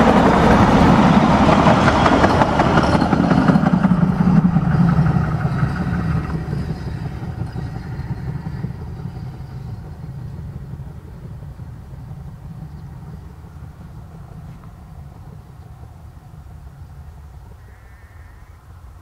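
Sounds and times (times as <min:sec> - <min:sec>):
steam train rumbling: 0:00.0 - 0:17.8.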